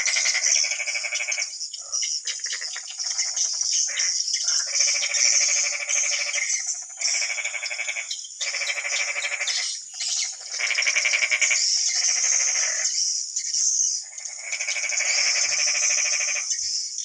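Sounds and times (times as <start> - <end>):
rattling frog-like croaks: 0.0 - 13.0, 14.0 - 16.6.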